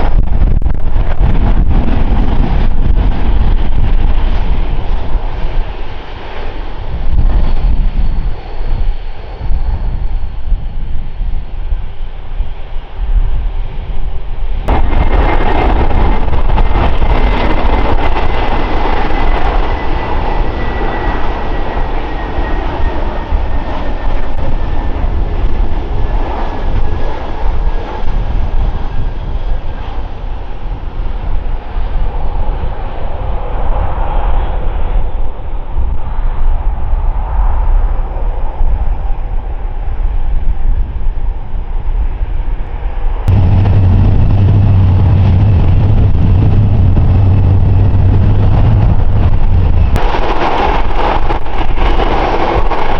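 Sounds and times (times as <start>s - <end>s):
jet engines whining: 0.0s - 35.8s, 41.4s - 52.9s.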